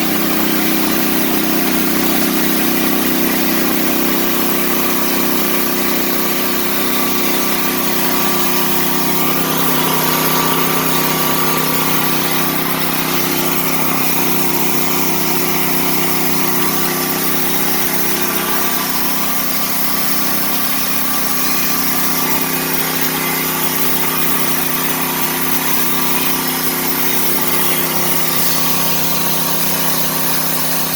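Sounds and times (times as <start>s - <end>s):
gasoline engine running steadily: 0.0s - 30.9s.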